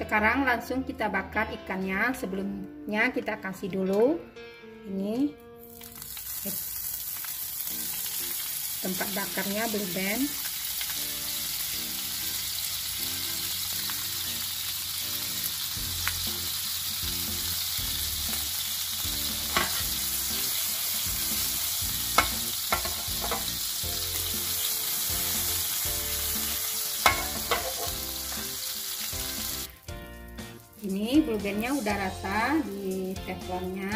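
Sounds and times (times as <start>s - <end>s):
margarine sizzling in a pan: 5.6s - 33.9s.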